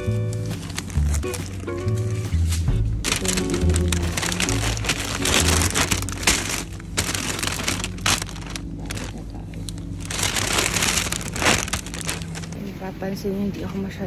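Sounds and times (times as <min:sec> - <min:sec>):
paper bag crinkling and rustling: 0:00.0 - 0:12.9.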